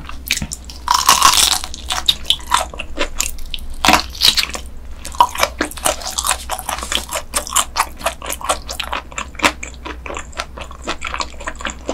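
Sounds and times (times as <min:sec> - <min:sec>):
crunchy chewing with wet clicks: 0:00.0 - 0:11.9.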